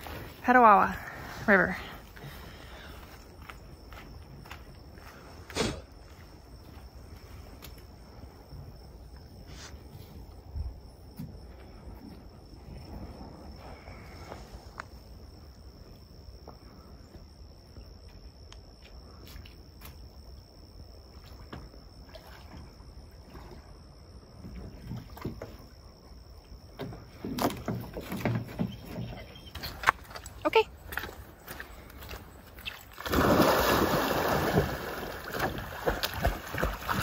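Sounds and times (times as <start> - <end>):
insects buzzing: 0.0 - 37.0.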